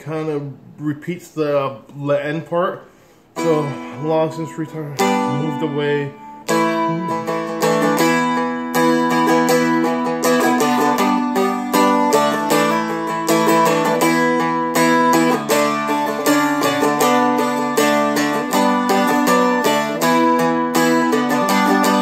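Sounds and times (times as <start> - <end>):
dulcimer strummed: 3.4 - 22.0.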